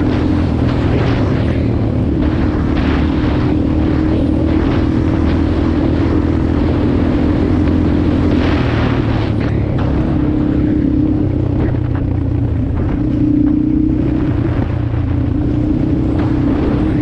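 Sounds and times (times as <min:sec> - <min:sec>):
motorcycle engine running: 0:00.0 - 0:17.0
rushing noise: 0:00.0 - 0:17.0.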